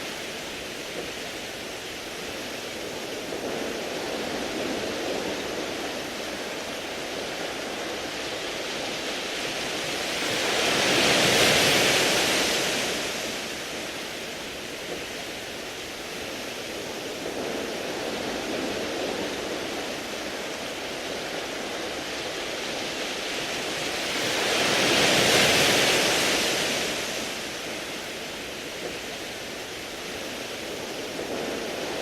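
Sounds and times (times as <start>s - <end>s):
waves washing over pebbles: 0.0s - 32.0s.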